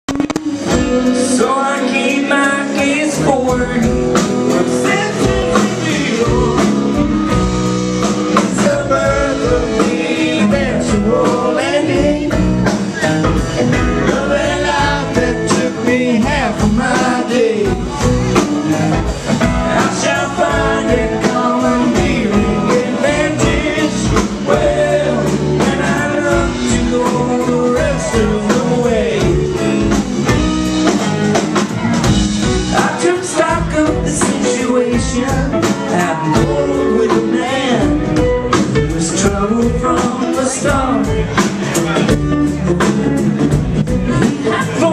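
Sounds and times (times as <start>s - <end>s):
live rock band playing: 0.1s - 44.9s
man singing lead: 0.1s - 44.9s.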